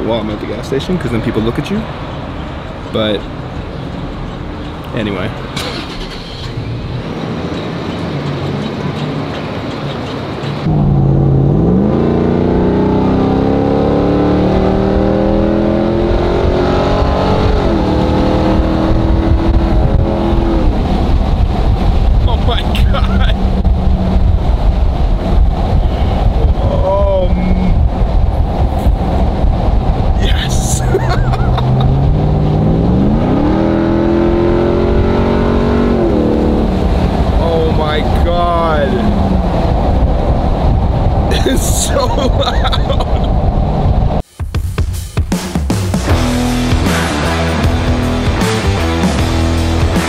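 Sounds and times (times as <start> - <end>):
truck engine accelerating: 1.9 - 44.2, 45.9 - 50.0.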